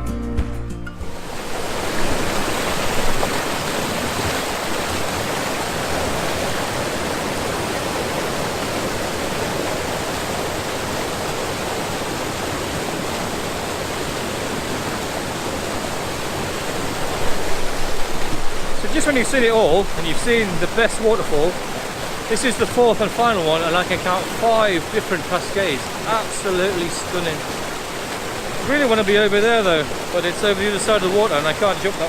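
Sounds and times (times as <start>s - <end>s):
waterfall roaring: 1.0s - 32.0s.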